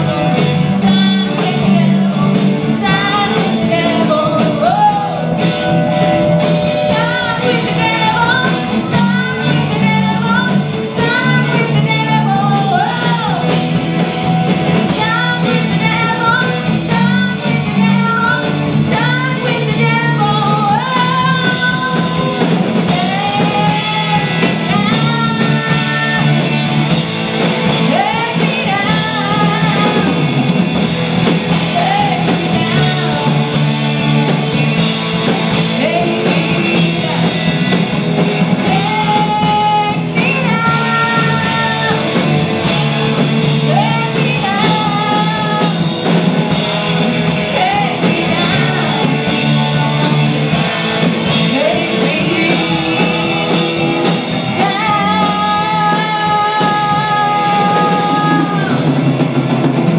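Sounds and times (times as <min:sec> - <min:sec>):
woman singing lead: 0:00.0 - 0:59.2
bass guitar: 0:00.0 - 0:59.9
drum kit: 0:00.0 - 0:59.9
electric guitars: 0:00.0 - 0:59.9.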